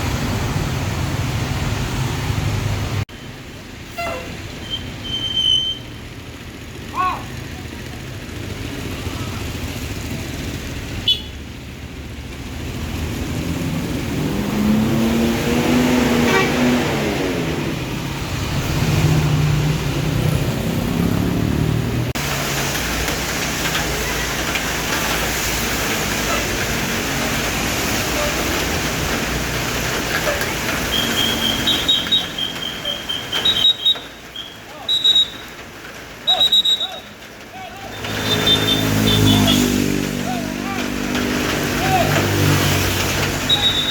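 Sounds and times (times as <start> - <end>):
road traffic noise: 0.0 - 43.9
heavy vehicle engine passing: 5.9 - 43.9.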